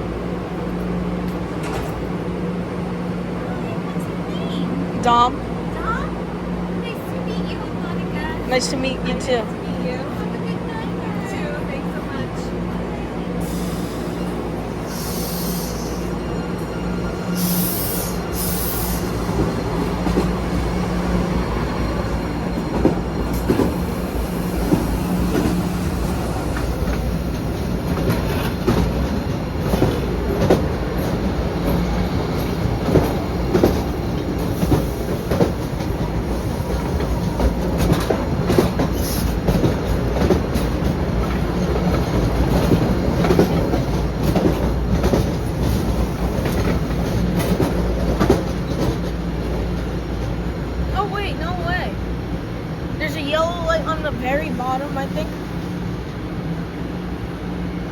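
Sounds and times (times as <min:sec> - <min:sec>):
subway train rumble and hum: 0:00.0 - 0:57.9.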